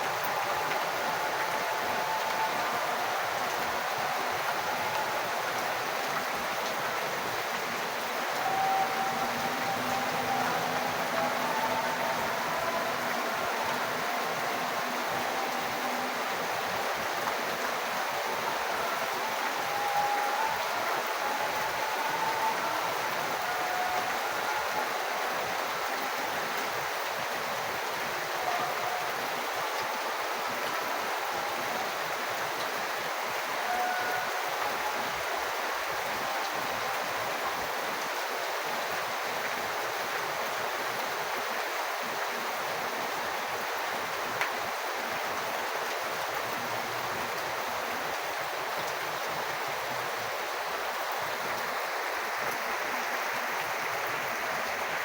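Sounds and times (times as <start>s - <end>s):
falling rain water rushing: 0.0s - 55.0s.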